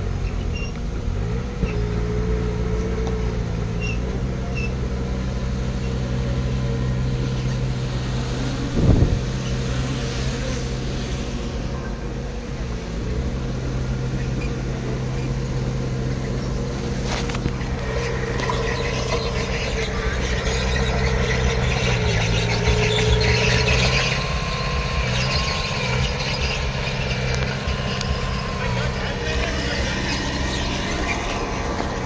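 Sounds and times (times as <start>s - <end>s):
bulldozer diesel engine running: 0.0s - 32.0s
high wavering squeal: 5.7s - 32.0s.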